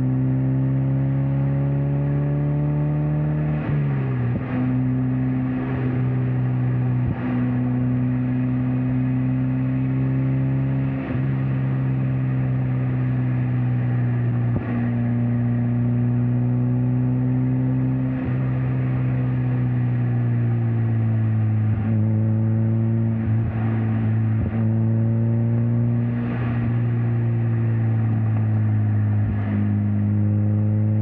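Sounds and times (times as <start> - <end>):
car engine and exhaust droning: 0.0 - 31.0
tyre and road noise: 1.6 - 31.0.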